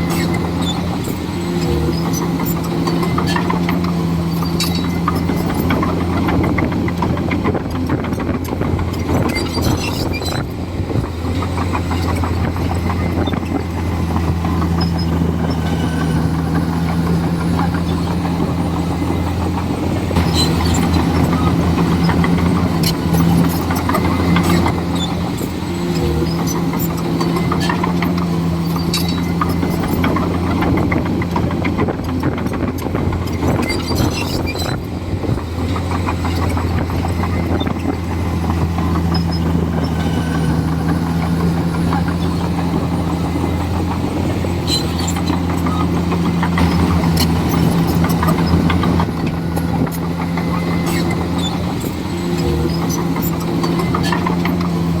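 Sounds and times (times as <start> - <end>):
bulldozer diesel engine running: 0.0 - 55.0
clanks from tracks and debris: 0.0 - 55.0.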